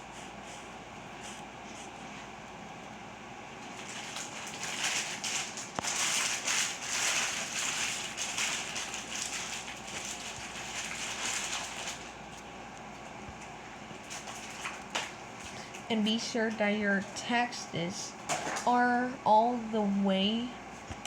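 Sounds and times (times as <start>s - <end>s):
crackling rustling noise: 0.0s - 18.7s.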